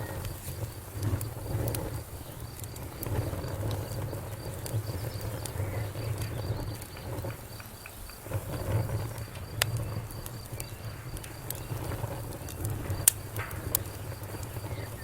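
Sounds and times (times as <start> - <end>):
fire crackles and pops: 0.0 - 15.0
fire rumble: 0.0 - 15.0.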